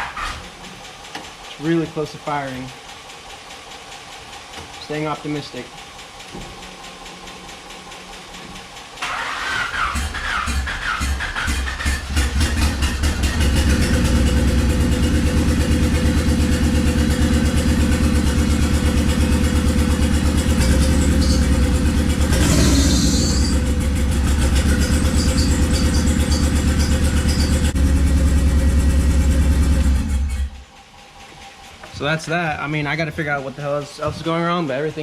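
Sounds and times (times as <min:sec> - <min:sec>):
car engine idling with misfire: 0:00.0 - 0:35.0.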